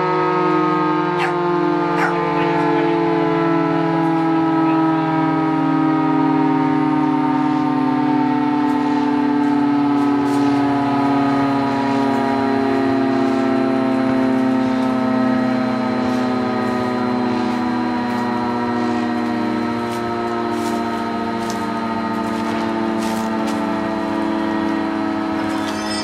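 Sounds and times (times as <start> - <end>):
air-raid siren: 0.0 - 26.0.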